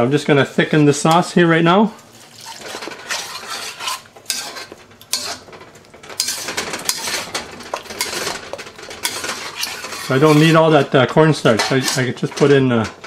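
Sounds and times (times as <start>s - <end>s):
metal spatula scraping in wok: 2.1s - 13.0s.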